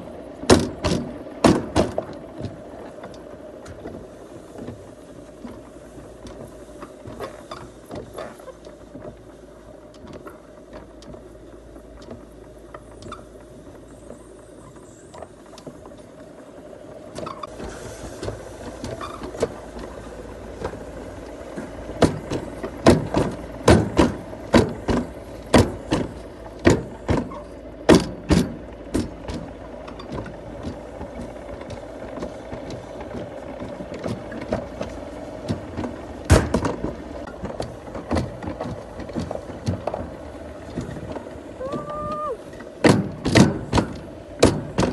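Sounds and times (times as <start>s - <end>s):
vehicle humming: 0.0s - 44.9s.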